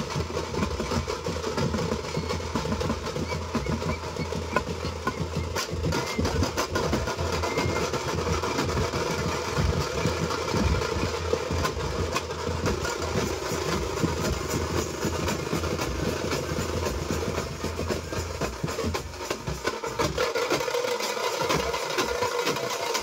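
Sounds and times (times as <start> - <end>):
patter of smaller drums: 0.0 - 23.0.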